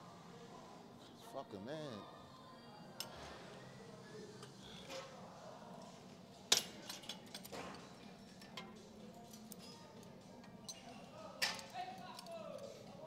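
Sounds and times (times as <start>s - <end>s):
faint gym background: 0.0s - 13.0s.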